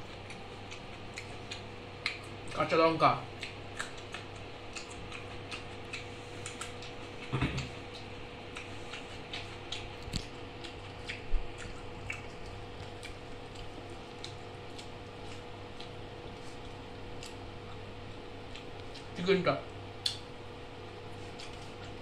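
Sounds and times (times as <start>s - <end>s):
chewing: 0.0s - 20.3s, 21.0s - 22.0s
low steady hum: 0.0s - 22.0s.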